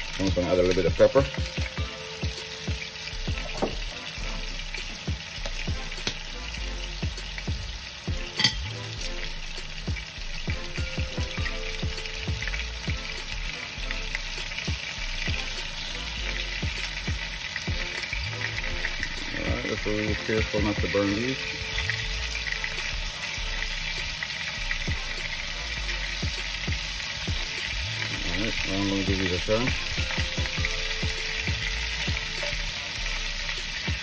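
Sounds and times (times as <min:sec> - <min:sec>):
scallops sizzling in a frying pan: 0:00.0 - 0:34.0.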